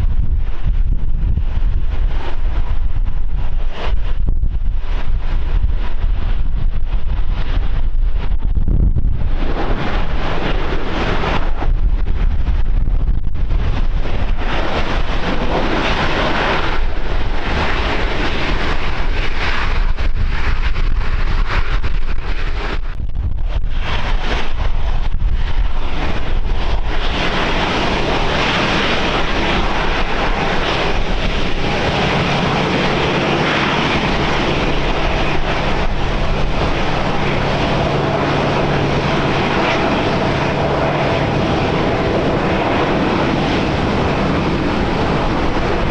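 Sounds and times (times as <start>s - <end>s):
airliner engines rushing: 0.0s - 45.9s
wind buffeting microphone: 0.0s - 45.9s.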